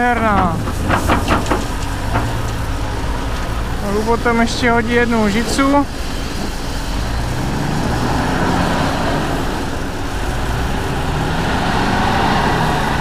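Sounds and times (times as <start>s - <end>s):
diesel engine working under load: 0.0s - 13.0s
gravel rattling into steel truck: 0.0s - 13.0s.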